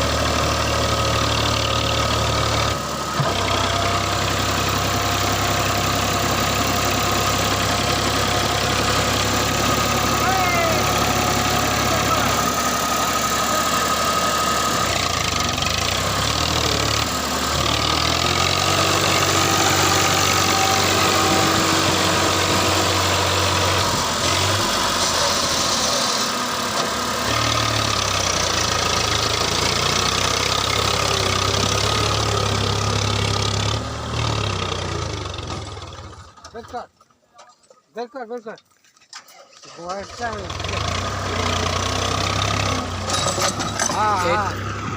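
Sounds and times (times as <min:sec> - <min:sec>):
tractor diesel engine running: 0:00.0 - 0:37.6, 0:39.1 - 0:44.9.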